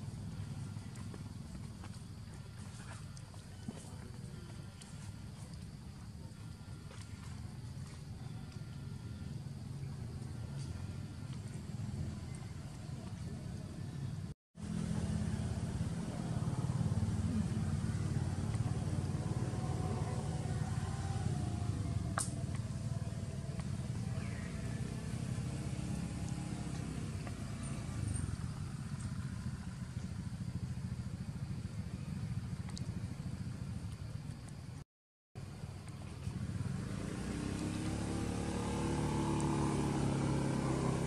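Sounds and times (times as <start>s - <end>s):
low outdoor rumble: 0.0s - 34.8s.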